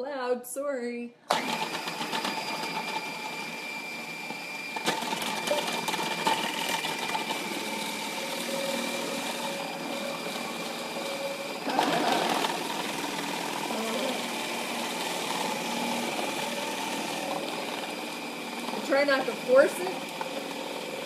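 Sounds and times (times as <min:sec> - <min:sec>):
food processor shredding carrots: 0:01.3 - 0:21.0.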